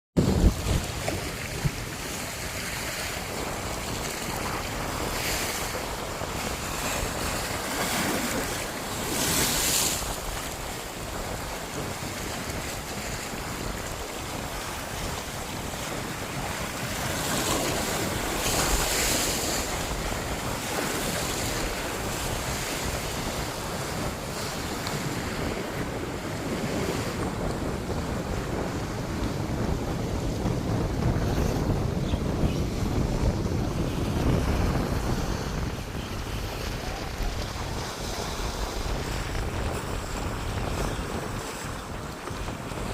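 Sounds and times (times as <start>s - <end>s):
sea surf breaking: 0.2s - 42.9s
wind buffeting microphone: 0.2s - 42.9s.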